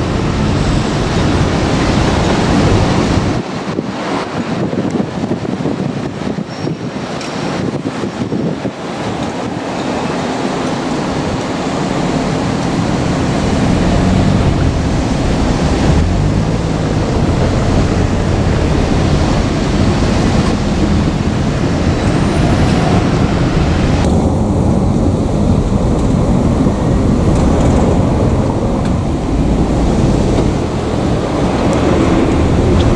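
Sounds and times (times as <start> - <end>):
train rumbling past: 0.0 - 32.9.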